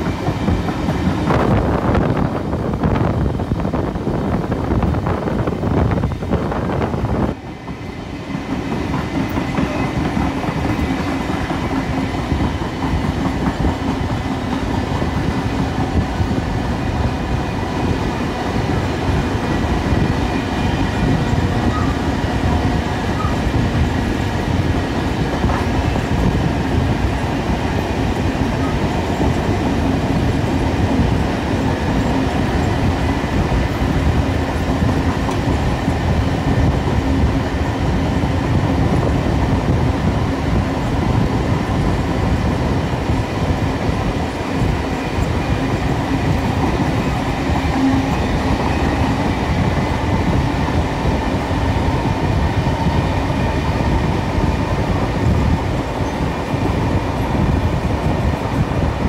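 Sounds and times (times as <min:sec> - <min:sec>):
second train running alongside: 0:00.0 - 0:59.0.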